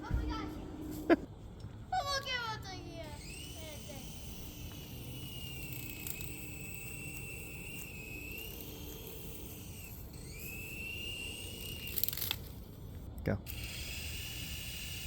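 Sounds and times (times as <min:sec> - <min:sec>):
toy helicopter motor whine: 0:02.8 - 0:15.0.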